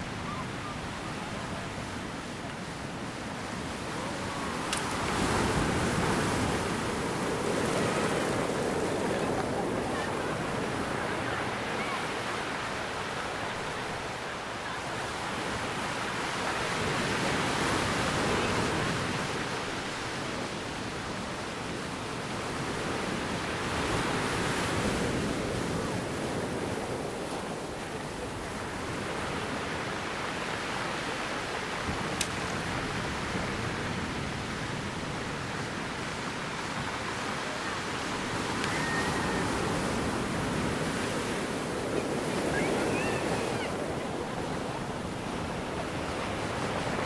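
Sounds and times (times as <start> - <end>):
waves breaking and washing in: 0.0 - 47.0.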